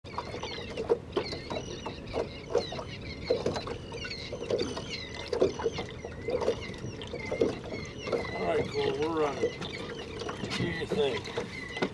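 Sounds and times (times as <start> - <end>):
water slapping against boat hull: 0.1 - 11.9.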